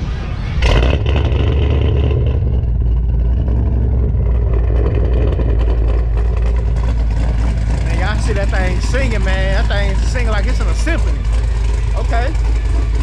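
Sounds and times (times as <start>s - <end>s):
car engine revving with choppy rumble: 0.0s - 13.0s.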